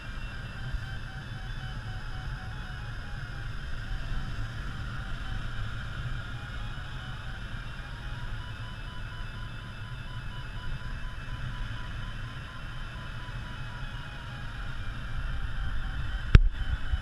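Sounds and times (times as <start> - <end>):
electronic variometer beeps: 0.0 - 17.0.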